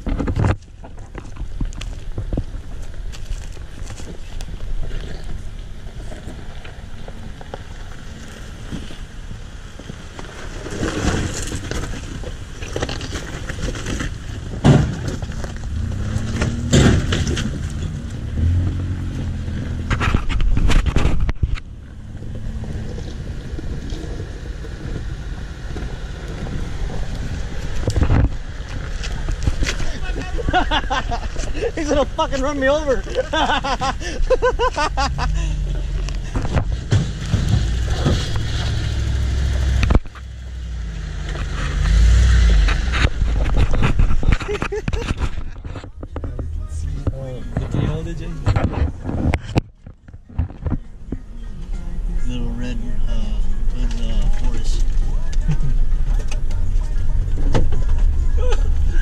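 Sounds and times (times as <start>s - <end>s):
tyres crunching on stones: 0.0s - 9.1s, 9.7s - 18.8s, 19.7s - 51.3s
pickup truck engines at low speed: 0.0s - 32.2s, 33.0s - 59.0s.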